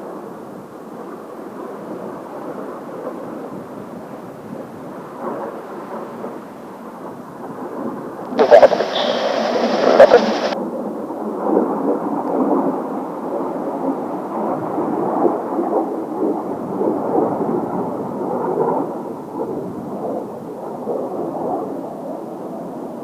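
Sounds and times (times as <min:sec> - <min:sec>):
jet engines rumbling: 0:04.3 - 0:23.0.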